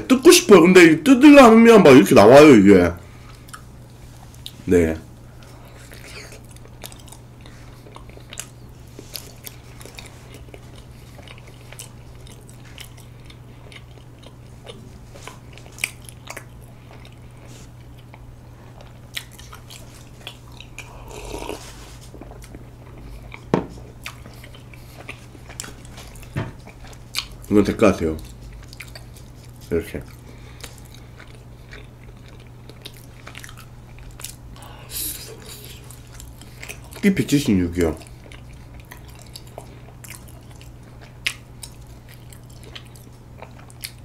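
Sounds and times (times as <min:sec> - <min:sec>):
person chewing sticky food: 0:03.1 - 0:04.7, 0:05.3 - 0:44.0.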